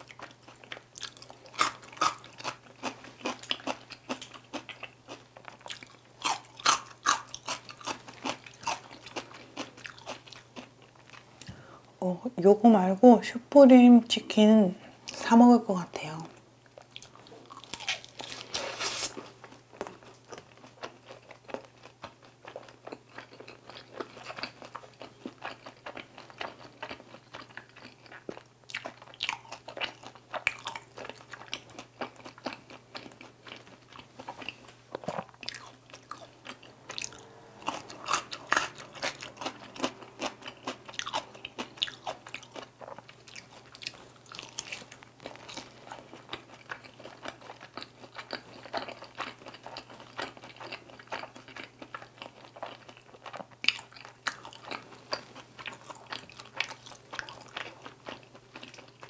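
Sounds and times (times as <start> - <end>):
crunchy chewing: 0.0 - 11.5, 16.7 - 59.0.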